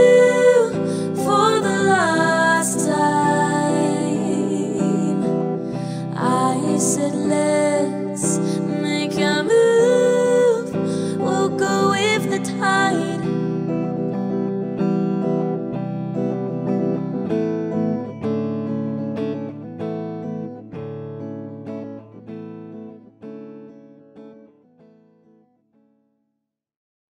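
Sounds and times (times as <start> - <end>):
acoustic guitar plucking and strumming: 0.0 - 25.4.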